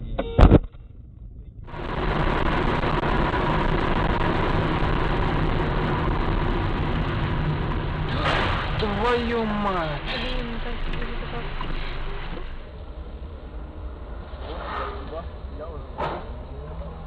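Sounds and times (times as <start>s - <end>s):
faint steady whine: 0.0s - 17.0s
moving car road noise: 0.0s - 17.0s.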